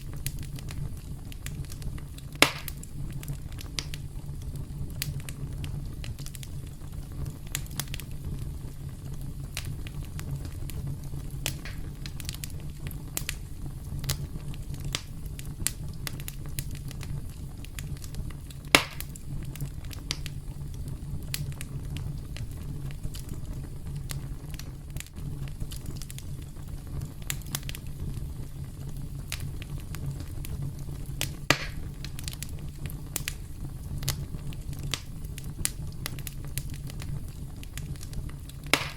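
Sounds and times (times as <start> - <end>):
burning wood popping: 0.0 - 38.9
flames rumbling: 0.0 - 38.9.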